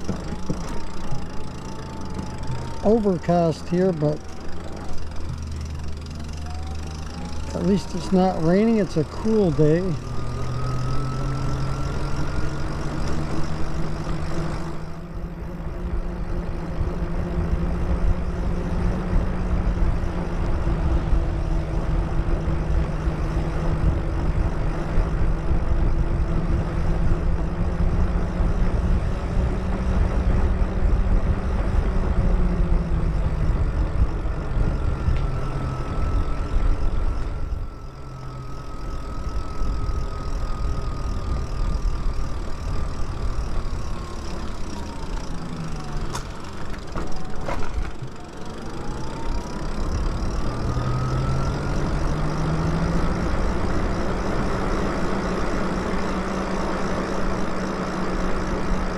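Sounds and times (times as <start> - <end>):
electric motor whine: 0.0 - 58.9
wind and tyre rumble: 0.0 - 58.9.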